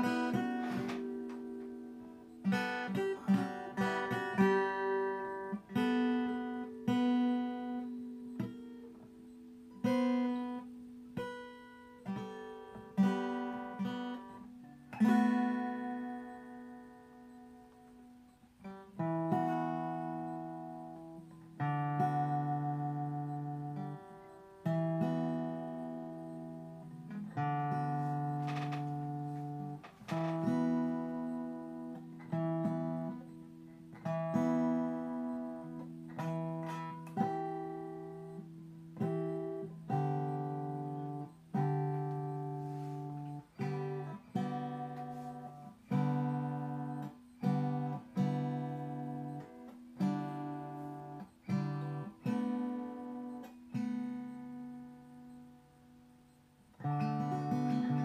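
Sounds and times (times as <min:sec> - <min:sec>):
acoustic guitar strummed slowly: 0:00.0 - 0:58.0.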